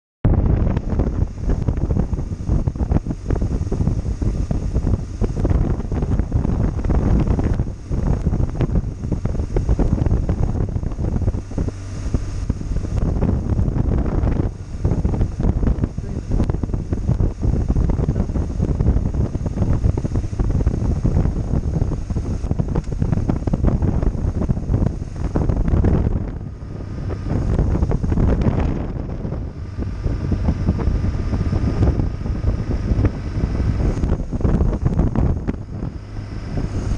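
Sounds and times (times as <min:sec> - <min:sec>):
wind buffeting microphone: 0:00.2 - 0:36.9
motorcycle engine running: 0:00.3 - 0:36.9.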